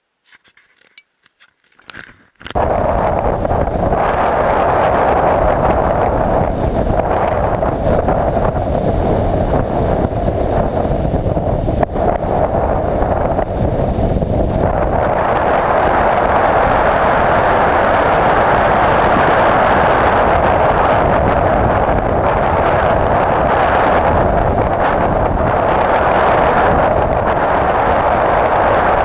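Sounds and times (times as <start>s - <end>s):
wind and road noise: 1.7s - 29.0s
motorcycle engine: 2.6s - 29.0s.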